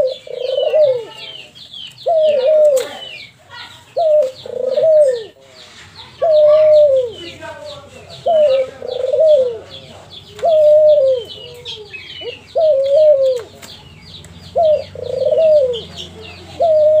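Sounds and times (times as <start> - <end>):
dove cooing: 0.0 - 5.5, 6.1 - 7.4, 8.0 - 13.6, 14.4 - 17.0.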